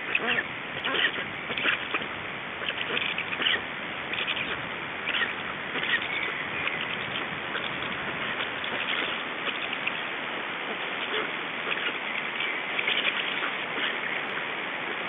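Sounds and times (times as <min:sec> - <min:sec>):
rain patters and ticks: 0:00.0 - 0:15.0.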